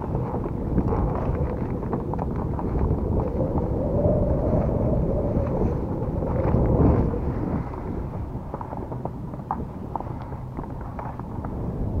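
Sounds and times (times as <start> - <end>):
faint wind howl: 0.0 - 12.0
wind buffeting microphone: 0.0 - 12.0.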